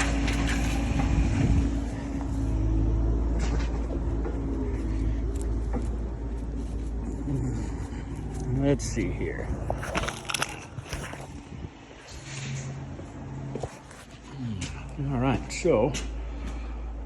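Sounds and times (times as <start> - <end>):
excavator engine rumbling: 0.0 - 17.0.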